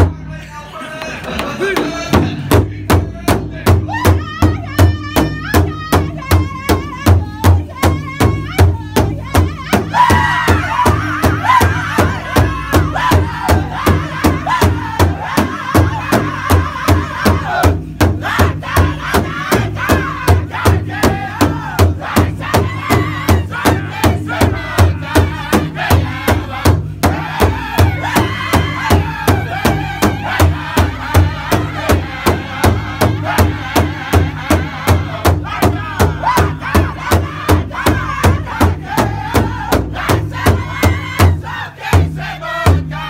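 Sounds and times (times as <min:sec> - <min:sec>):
men singing together: 0:00.7 - 0:43.0
large drum beating: 0:01.6 - 0:43.0.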